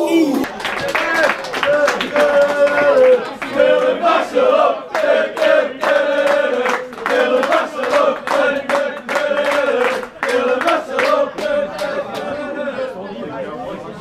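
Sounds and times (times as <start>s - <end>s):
crowd chanting: 0.0s - 14.0s.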